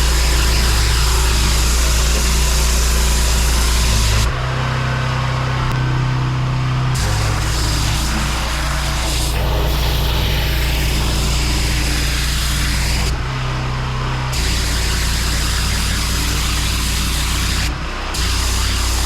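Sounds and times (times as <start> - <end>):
pressure washer engine humming: 0.0 - 19.0.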